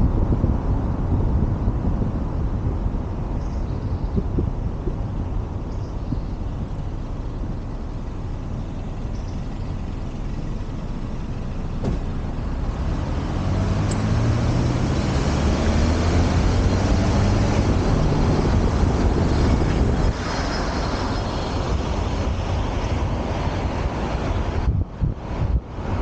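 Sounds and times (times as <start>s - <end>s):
heavy vehicle engine hum: 0.0s - 26.0s
street traffic noise: 0.0s - 26.0s.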